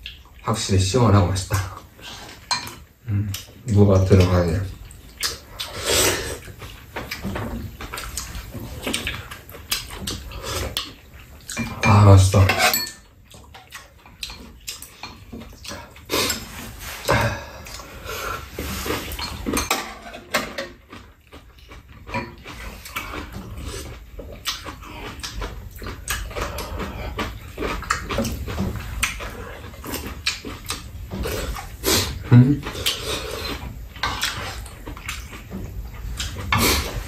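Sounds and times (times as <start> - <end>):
chewing and slurping soup: 0.0 - 0.5, 1.6 - 11.8, 12.9 - 37.0.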